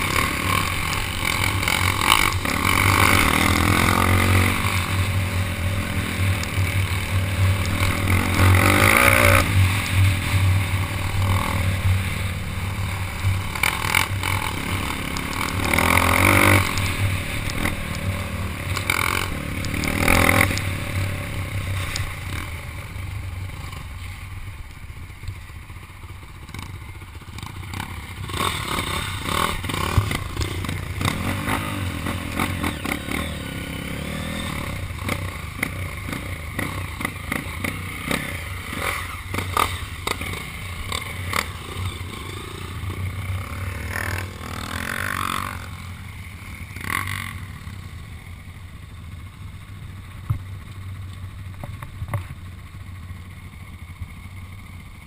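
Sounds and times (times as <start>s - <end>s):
dirt bike engine revving: 0.0s - 23.9s, 26.5s - 47.8s.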